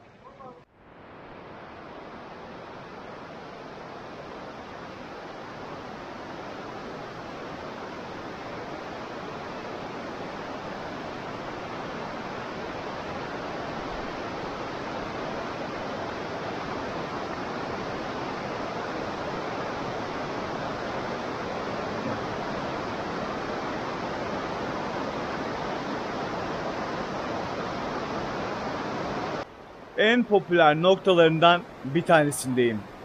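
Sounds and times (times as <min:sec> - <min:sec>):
river water rushing: 0:00.8 - 0:33.0.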